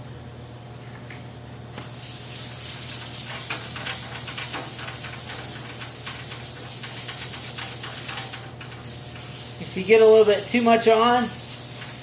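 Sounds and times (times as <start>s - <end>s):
sandpaper scraping wood: 2.2s - 12.0s.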